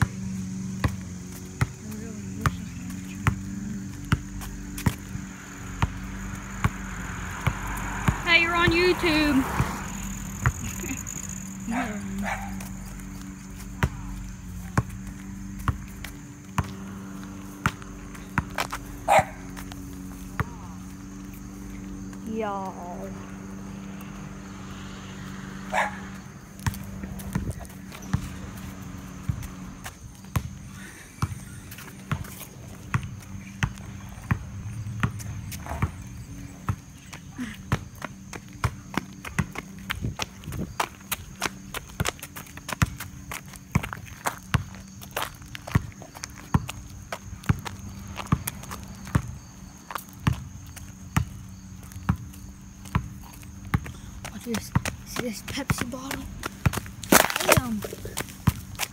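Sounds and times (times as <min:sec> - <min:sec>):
footsteps on concrete: 0:00.0 - 0:22.9, 0:25.7 - 0:58.9.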